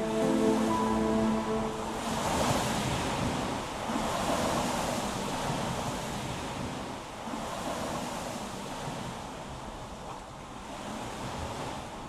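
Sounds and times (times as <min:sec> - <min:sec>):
waves washing onto shore: 0:00.0 - 0:12.0
wind: 0:00.0 - 0:12.0.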